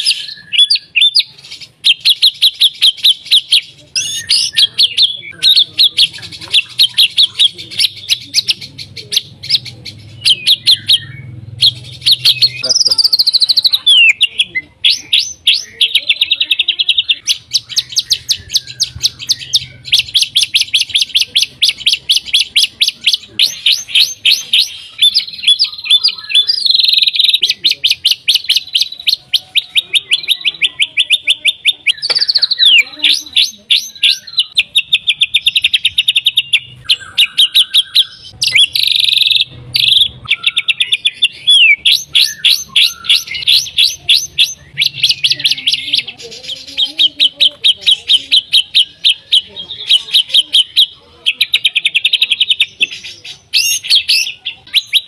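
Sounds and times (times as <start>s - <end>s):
bird singing rapid notes: 0.0s - 55.0s
bird whistled phrases: 0.0s - 55.0s.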